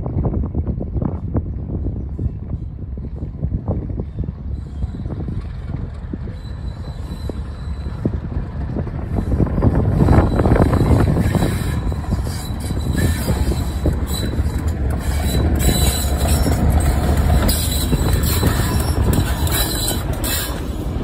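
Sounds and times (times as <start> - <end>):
diesel locomotive engine drone: 0.0 - 21.0
train wheels squealing on rails: 2.0 - 21.0.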